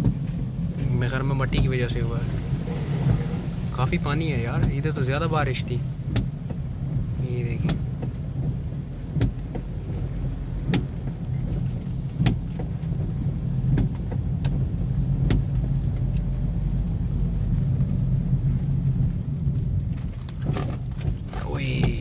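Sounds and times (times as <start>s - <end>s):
car engine and tyre hum: 0.0s - 22.0s
windscreen wipers knocking: 0.0s - 22.0s.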